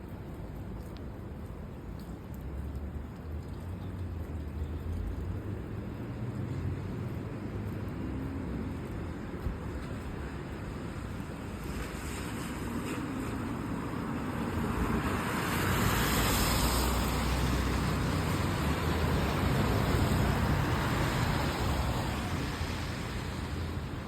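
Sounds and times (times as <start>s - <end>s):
vehicle passing on wet road: 0.1s - 24.0s.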